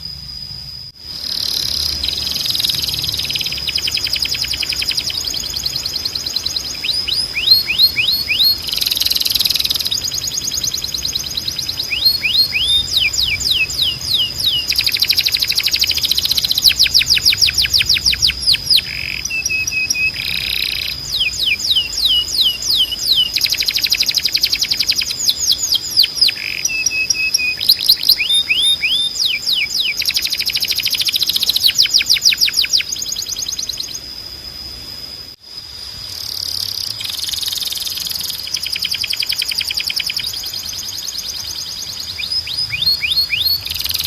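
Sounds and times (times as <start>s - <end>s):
canary singing trills: 1.1s - 34.2s, 36.2s - 44.0s.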